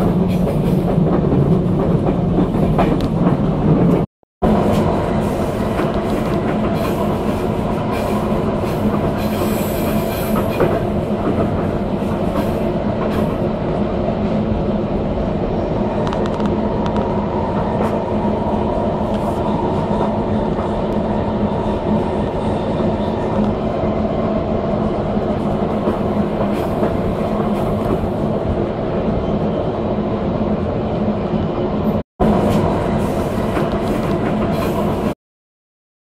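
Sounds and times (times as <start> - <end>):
train wheels rolling on rails: 0.0 - 30.6, 31.5 - 35.1.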